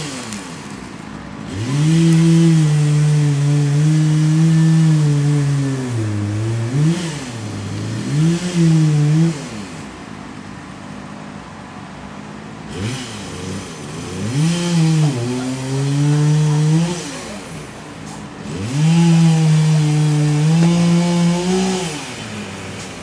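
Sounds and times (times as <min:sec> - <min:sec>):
chainsaw engine revving: 0:00.0 - 0:10.0, 0:12.7 - 0:23.0.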